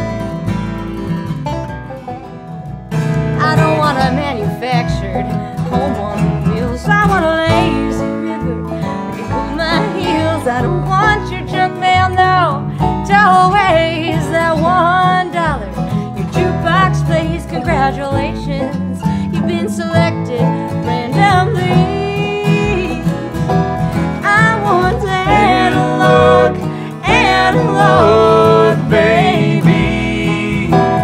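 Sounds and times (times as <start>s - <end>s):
bluegrass band playing: 0.0s - 31.0s.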